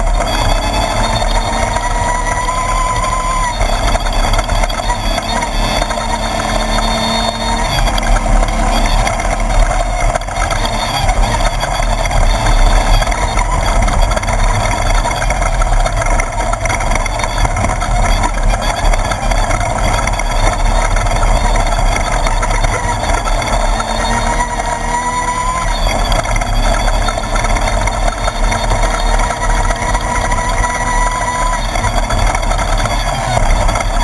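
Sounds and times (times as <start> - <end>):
buggy engine running hard: 0.0 - 34.0.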